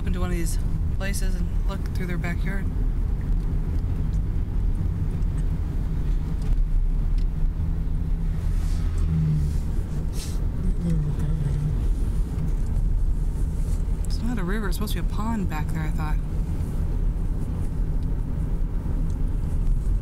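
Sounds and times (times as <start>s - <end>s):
car interior engine and tyre rumble: 0.0s - 20.0s.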